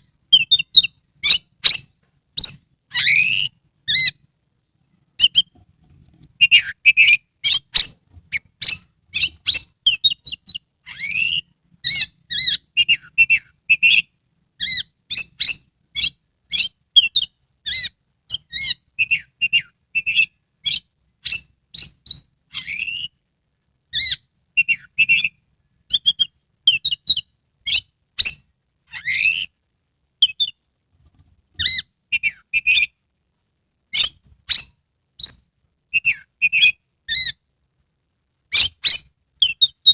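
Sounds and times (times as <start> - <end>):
songbird singing: 0.0 - 5.6, 6.3 - 23.2, 23.9 - 29.6, 30.2 - 30.7, 31.6 - 33.0, 33.9 - 37.4, 38.5 - 39.9.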